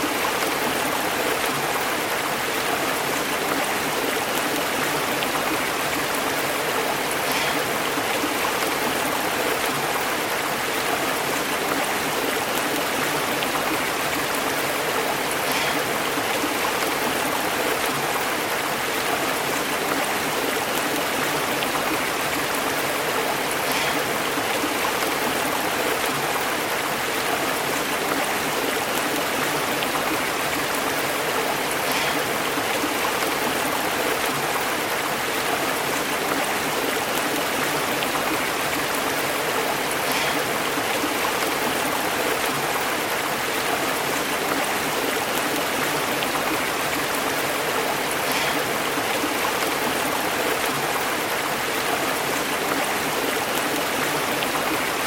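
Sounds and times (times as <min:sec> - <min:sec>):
small water splashes: 0:00.0 - 0:55.0
stream babbling over rocks: 0:00.0 - 0:55.0.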